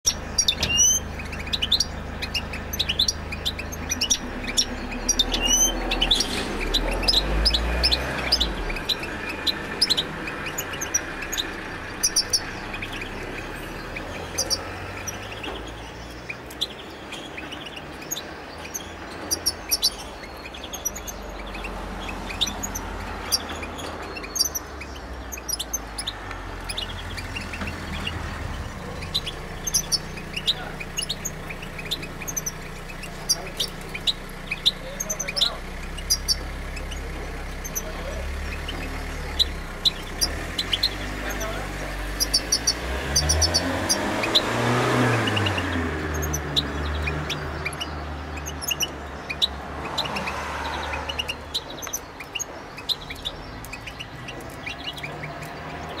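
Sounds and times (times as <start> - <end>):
bird twittering song: 0.0 - 56.0.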